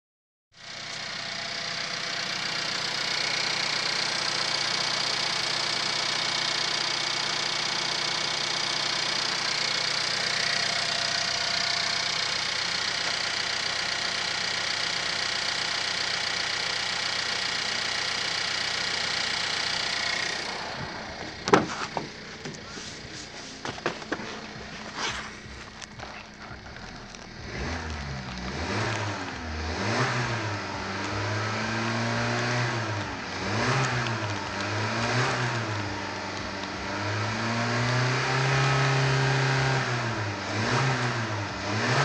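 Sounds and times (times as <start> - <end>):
car engine idling: 0.6 - 41.7.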